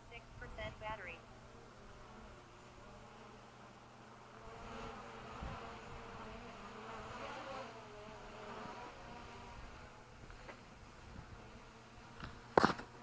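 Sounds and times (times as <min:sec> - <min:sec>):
drone propellers buzzing: 0:00.3 - 0:13.0.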